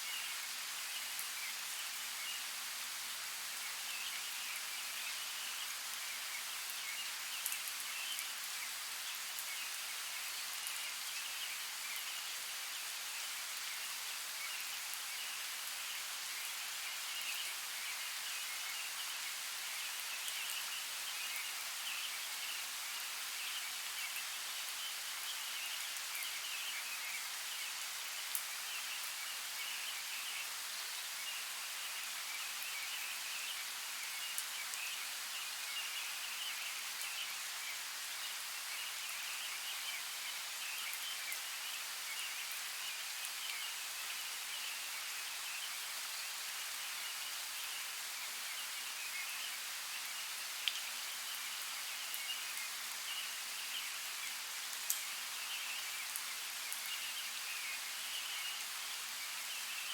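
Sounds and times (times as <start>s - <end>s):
running water hiss: 0.0s - 59.9s.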